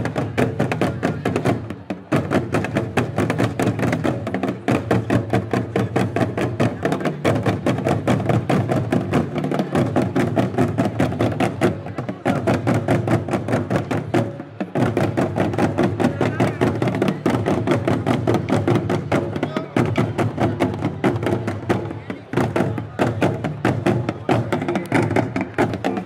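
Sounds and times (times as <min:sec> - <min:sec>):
large wooden drums rapid strikes: 0:00.0 - 0:26.0.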